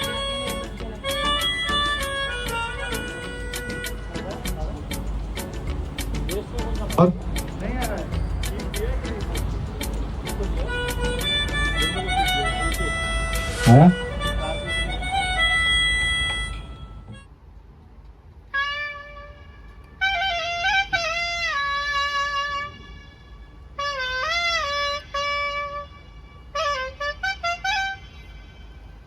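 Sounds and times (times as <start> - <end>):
reed wind instrument playing: 0.0 - 17.3, 18.6 - 29.0.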